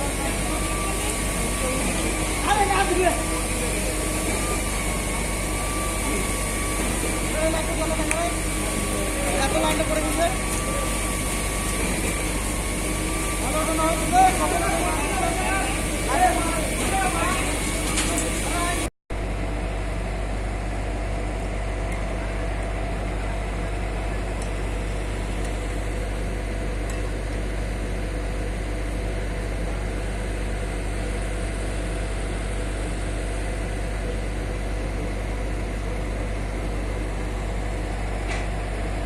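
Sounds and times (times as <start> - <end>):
heavy engine humming: 0.0 - 39.0.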